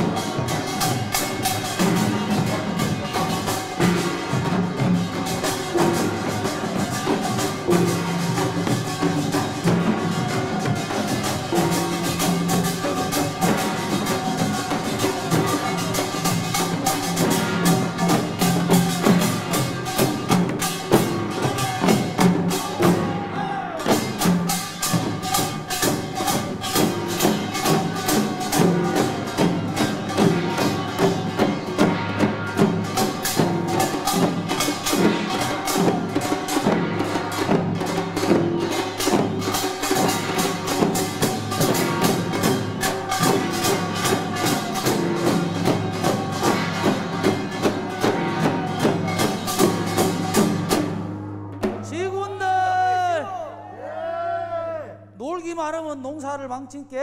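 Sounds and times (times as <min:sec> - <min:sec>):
drums: 0:00.0 - 0:55.8.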